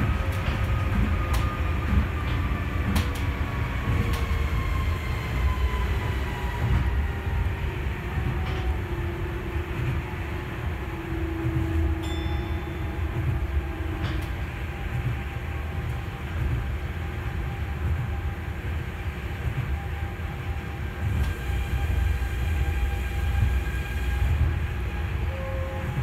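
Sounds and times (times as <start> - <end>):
monorail car rumbling: 0.0 - 26.0.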